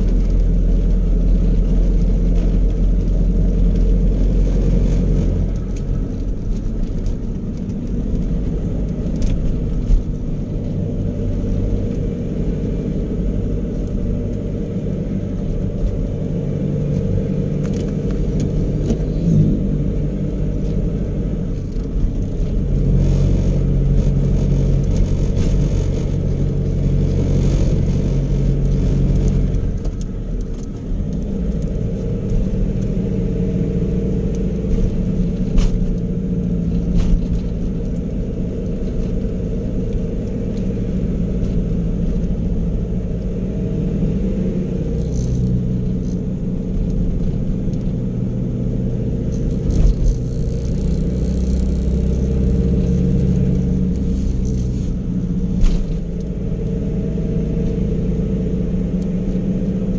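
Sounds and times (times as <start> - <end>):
car engine rumble: 0.0 - 59.9
road noise: 0.0 - 59.9.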